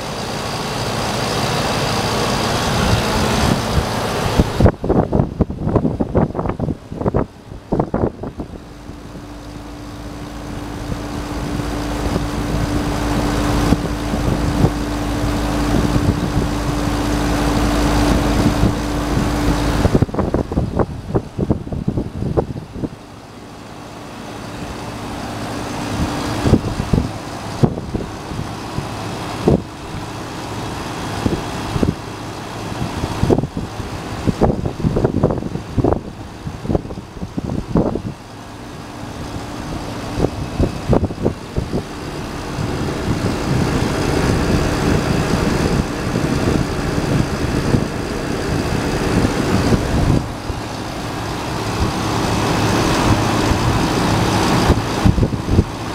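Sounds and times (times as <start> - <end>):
air conditioner fan and hum: 0.0 - 55.9.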